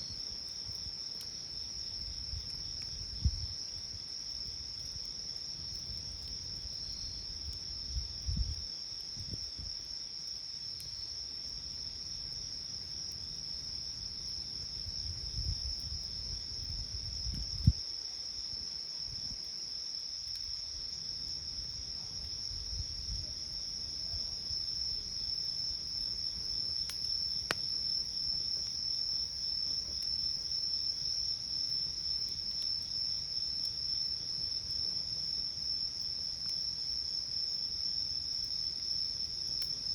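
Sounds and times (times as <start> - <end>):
campfire pops and crackles: 0.0 - 37.0, 37.7 - 39.9
crickets trilling: 0.0 - 39.9.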